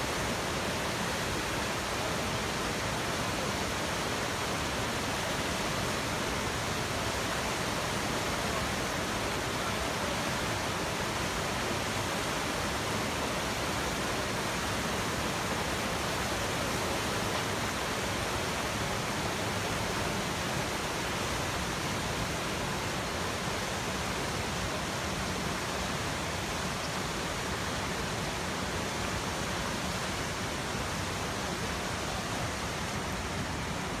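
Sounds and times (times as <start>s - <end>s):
river rapid rushing: 0.0s - 34.0s.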